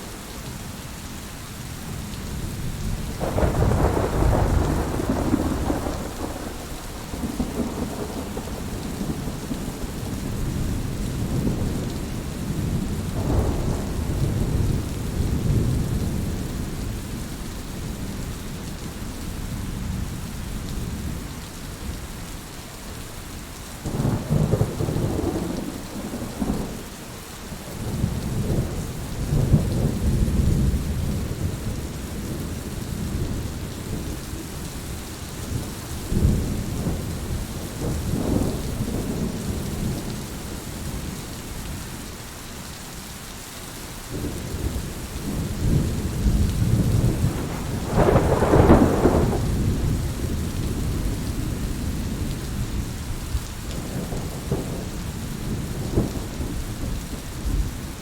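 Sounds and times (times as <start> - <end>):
heavy rain hissing: 0.0 - 58.0
rolling thunder rumbling: 2.0 - 18.4, 23.8 - 41.9, 44.1 - 58.0.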